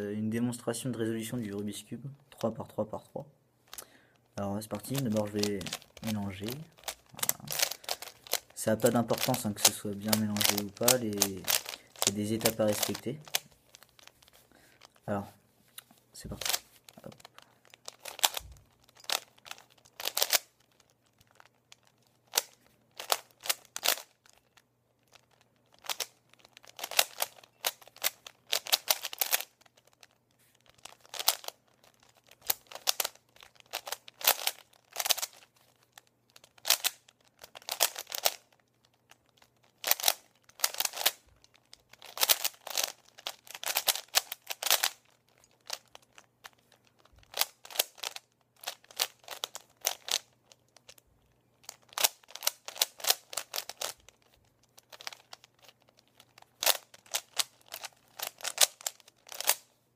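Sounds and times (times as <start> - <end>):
puzzle cube layers clicking: 4.6 - 15.2, 15.8 - 59.8.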